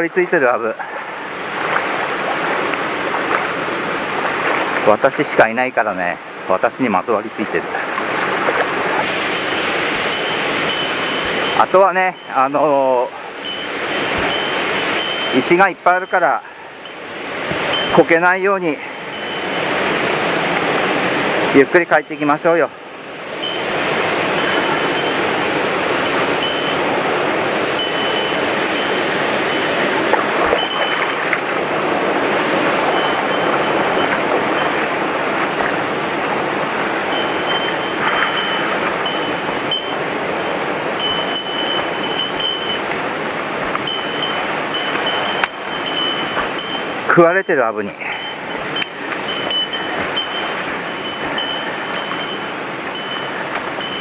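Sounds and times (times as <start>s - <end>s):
stream rushing over rocks: 0.0s - 54.0s
footsteps on river cobbles: 1.5s - 5.2s, 7.5s - 12.5s, 13.2s - 16.2s, 17.4s - 22.5s, 23.3s - 54.0s.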